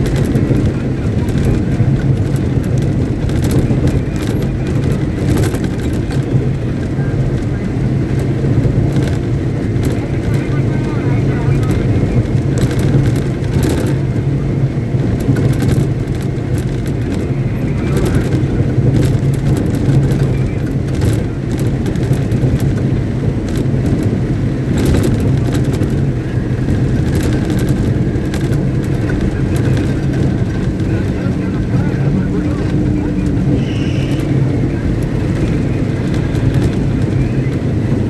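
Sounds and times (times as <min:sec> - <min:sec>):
large diesel engine running: 0:00.0 - 0:38.0.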